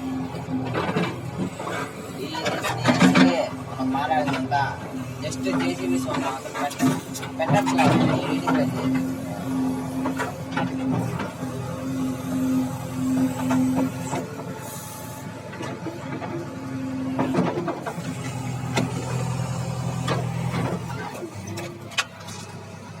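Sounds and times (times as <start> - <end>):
diesel engine under changing load: 0.0 - 23.0.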